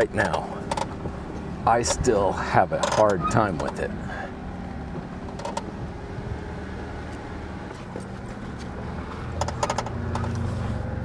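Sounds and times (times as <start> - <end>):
jeep engine running: 0.0 - 11.0.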